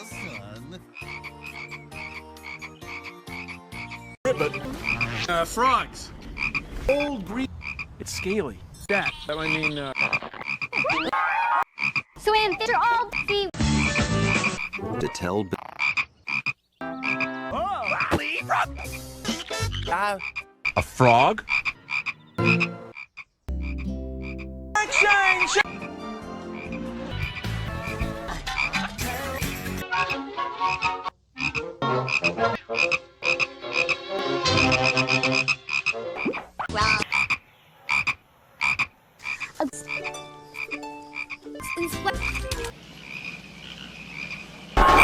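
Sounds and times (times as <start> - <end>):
frog croaking: 0.0 - 5.3, 6.3 - 6.7, 7.5 - 8.4, 9.0 - 11.1, 11.7 - 26.9, 27.8 - 28.9, 29.9 - 45.0.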